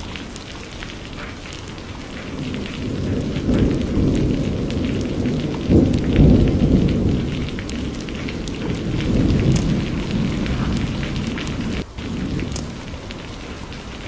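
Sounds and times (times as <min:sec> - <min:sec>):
rain falling: 0:00.0 - 0:14.0
raindrops ticking: 0:00.0 - 0:14.0
thunder rumbling: 0:00.0 - 0:14.0.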